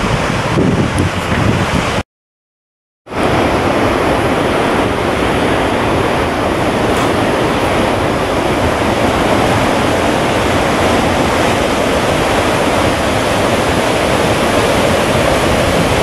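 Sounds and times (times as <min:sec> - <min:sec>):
wind buffeting microphone: 0:00.0 - 0:02.0, 0:03.1 - 0:16.0
waterfall rushing: 0:03.1 - 0:16.0.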